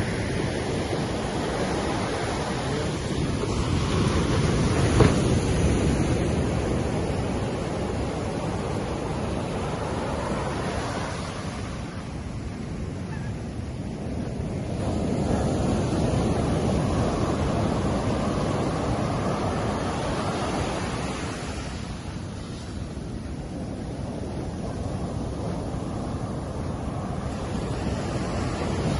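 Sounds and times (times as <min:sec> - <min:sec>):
ocean waves breaking: 0:00.0 - 0:28.9
wind rumble on microphone: 0:00.0 - 0:28.9.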